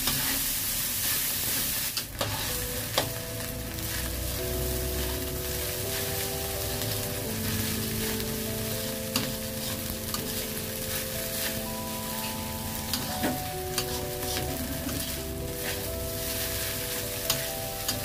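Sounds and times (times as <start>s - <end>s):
metal spatula scraping wok: 0.0s - 3.2s, 3.8s - 18.0s
rice sizzling in a wok: 0.0s - 18.0s.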